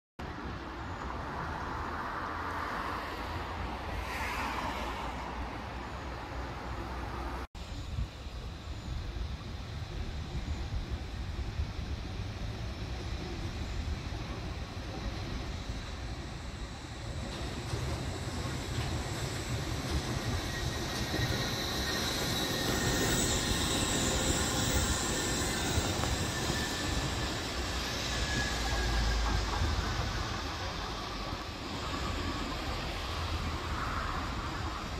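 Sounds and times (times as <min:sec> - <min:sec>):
monorail car rumble and hiss: 0:00.2 - 0:34.9.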